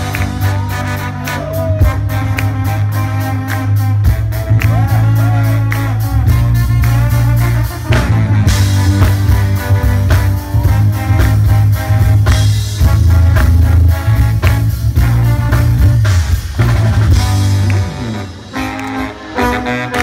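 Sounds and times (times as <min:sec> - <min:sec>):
drums: 0:00.0 - 0:20.0
heavy bass: 0:00.0 - 0:20.0
live band music: 0:00.0 - 0:20.0
trombone and saxophones: 0:00.0 - 0:20.0.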